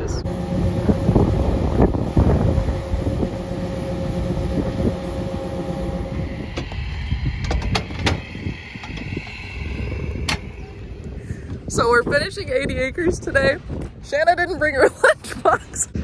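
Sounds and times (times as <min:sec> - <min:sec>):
farm machinery droning: 0:00.0 - 0:13.3.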